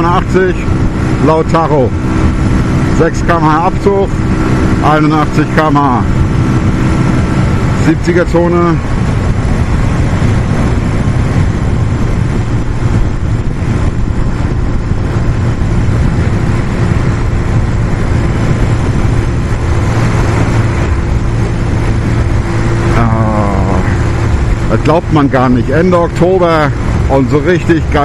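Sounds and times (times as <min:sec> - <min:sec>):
motorcycle engine cruising: 0:00.0 - 0:28.0
wind noise on microphone: 0:00.0 - 0:28.0.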